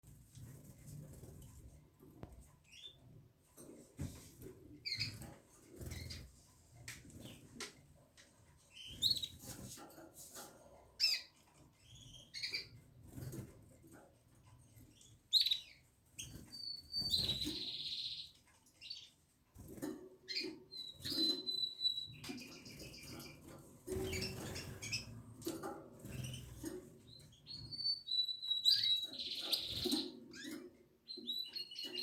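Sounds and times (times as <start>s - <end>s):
canaries chirping: 0.1s - 32.0s.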